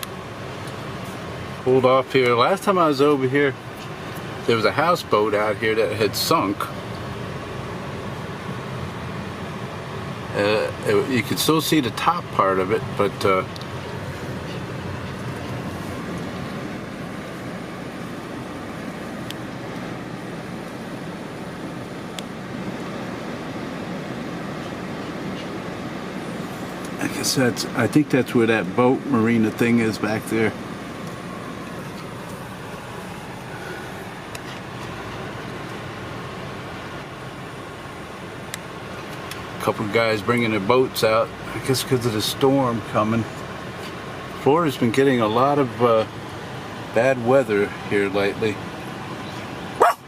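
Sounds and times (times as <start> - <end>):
air conditioning blowing: 0.0 - 50.0
car running: 0.0 - 50.0.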